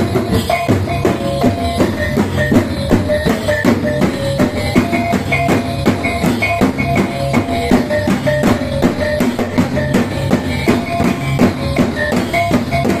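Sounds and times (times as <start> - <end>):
barrel drums beaten with sticks: 0.0 - 13.0.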